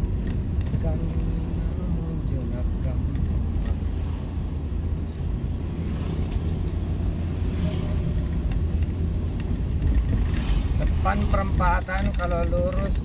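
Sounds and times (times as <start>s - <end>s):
vehicle rumbling along road: 0.0s - 13.0s.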